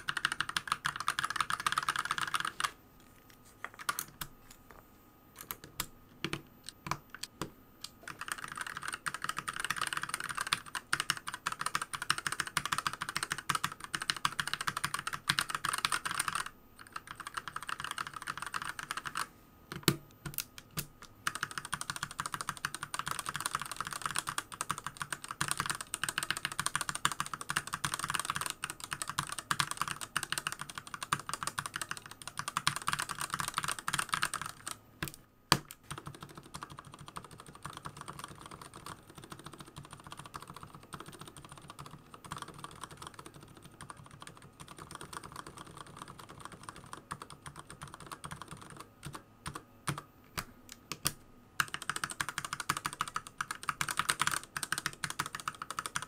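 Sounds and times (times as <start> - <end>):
mechanical keyboard typing: 0.0 - 2.8, 3.7 - 4.3, 5.4 - 56.0.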